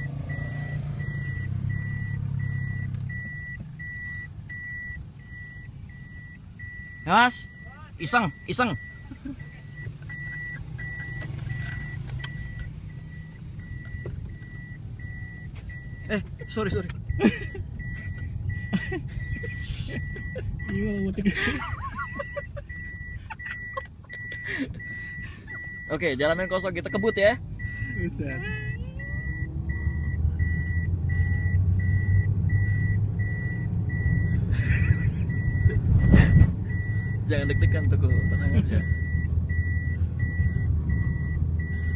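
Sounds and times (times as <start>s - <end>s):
engine and tyres rumbling: 0.0s - 41.9s
reverse warning beeper: 0.0s - 41.9s.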